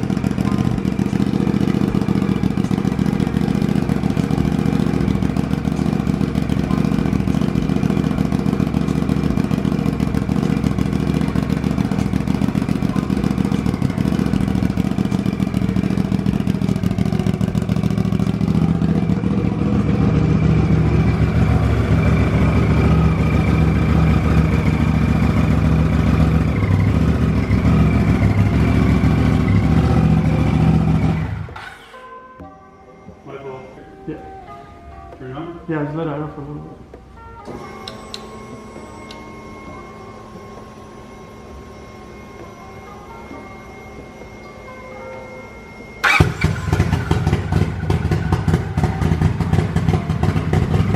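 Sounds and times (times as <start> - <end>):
engine running: 0.0 - 35.3, 36.6 - 50.9.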